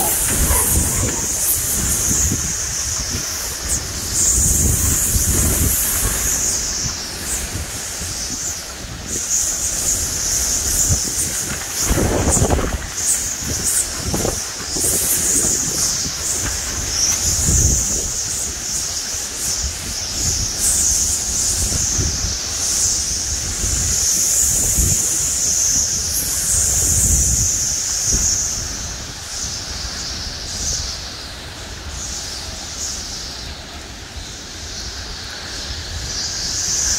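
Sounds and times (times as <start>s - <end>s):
wind buffeting microphone: 0.0s - 32.7s
hurricane wind gusting: 0.0s - 36.9s
rain hissing: 0.0s - 36.9s.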